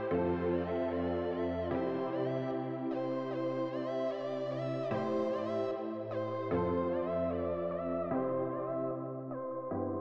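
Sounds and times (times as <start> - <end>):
electronic music sustained chords: 0.0 - 10.0.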